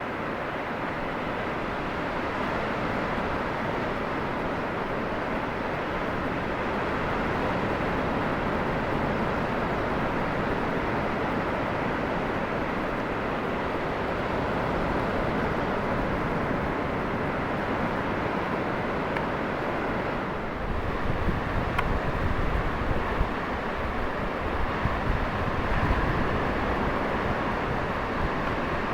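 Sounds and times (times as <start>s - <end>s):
ocean surf breaking: 0.2s - 28.9s.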